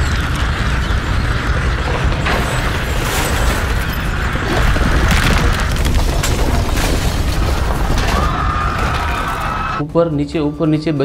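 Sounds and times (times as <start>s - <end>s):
cracks and knocks: 0.0s - 9.5s
deep earthquake rumble: 0.0s - 9.8s.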